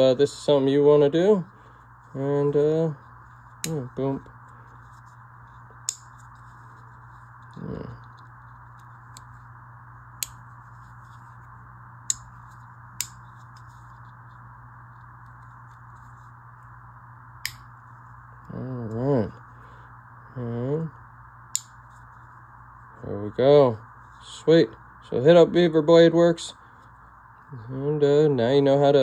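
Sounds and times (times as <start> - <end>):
low steady hiss: 0.0 - 29.0.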